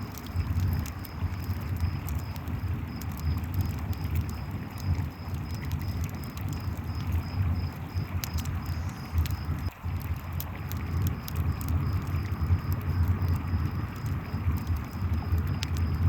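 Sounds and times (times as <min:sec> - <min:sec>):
campfire crackling: 0:00.0 - 0:16.0
crickets chirping: 0:00.3 - 0:09.7, 0:10.6 - 0:16.0.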